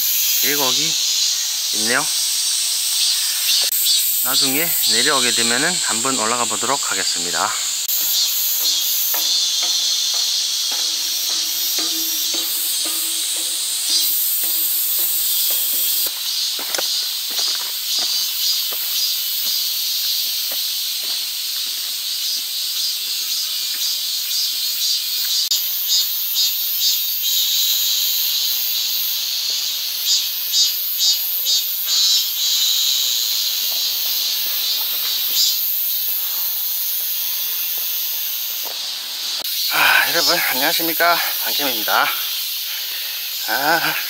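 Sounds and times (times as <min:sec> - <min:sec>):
cicada pulsing beats: 0:00.0 - 0:44.0
cicadas droning: 0:00.0 - 0:44.0.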